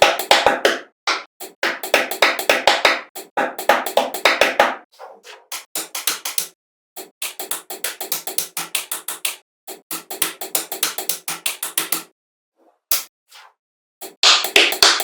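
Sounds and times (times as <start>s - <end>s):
music with clicky percussive beat: 0.0s - 4.9s, 5.5s - 12.1s, 14.0s - 15.0s.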